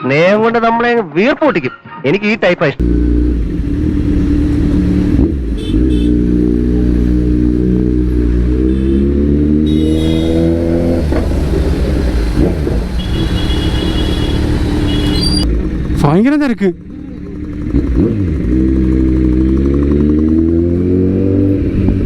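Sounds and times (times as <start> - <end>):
motorcycle engine revving: 2.8 - 22.0.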